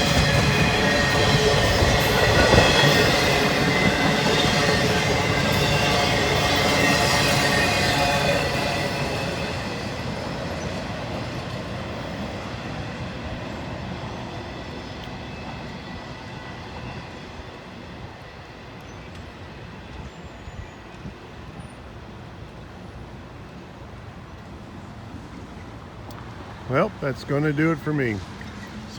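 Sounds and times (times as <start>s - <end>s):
train wheels squealing: 0.0s - 22.0s, 27.6s - 28.9s
freight train rolling on rails: 0.0s - 28.9s.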